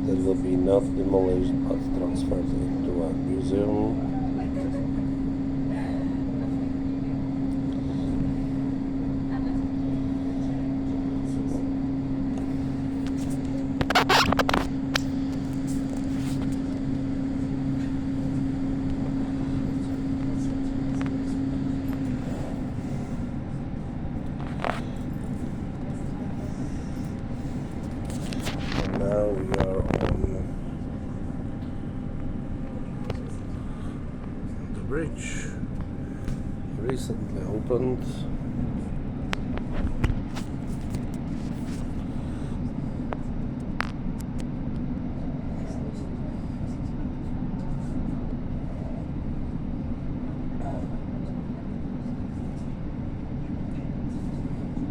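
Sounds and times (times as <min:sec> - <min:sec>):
low hum: 0:00.0 - 0:54.8.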